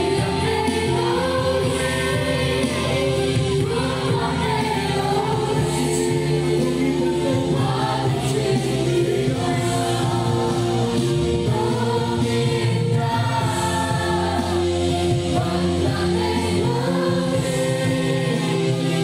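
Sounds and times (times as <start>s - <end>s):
band with drums and electric guitar: 0.0s - 19.0s
congregation singing along: 0.0s - 19.0s
man and woman singing lead: 0.0s - 19.0s.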